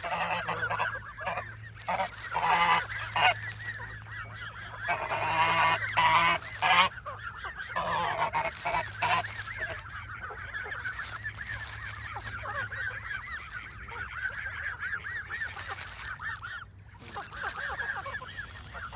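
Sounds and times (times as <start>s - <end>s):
geese honking: 0.0s - 18.9s.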